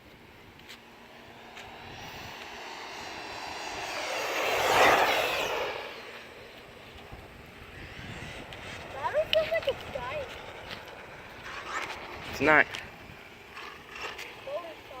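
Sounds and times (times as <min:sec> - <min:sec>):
rc truck passing at speed: 0:00.9 - 0:15.0.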